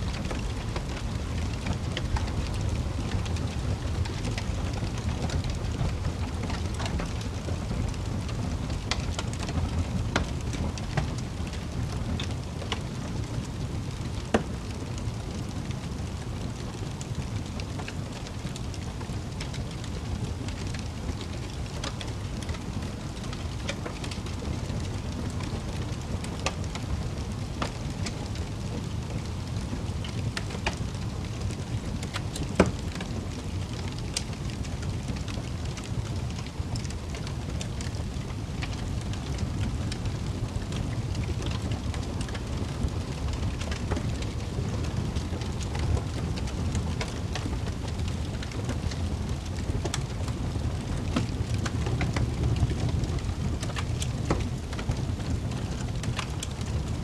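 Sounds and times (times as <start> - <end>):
low rumble of burning: 0.0 - 57.0
wood fire crackling: 0.0 - 57.0.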